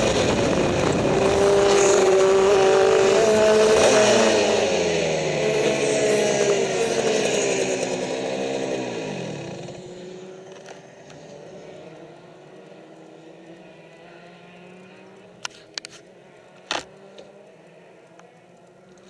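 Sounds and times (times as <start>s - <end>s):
kart engine winding down: 0.0s - 15.5s.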